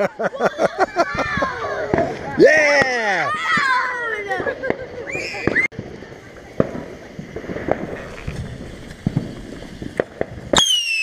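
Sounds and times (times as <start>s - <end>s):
fireworks hissing: 0.0s - 11.0s
fireworks popping and cracking: 0.7s - 11.0s.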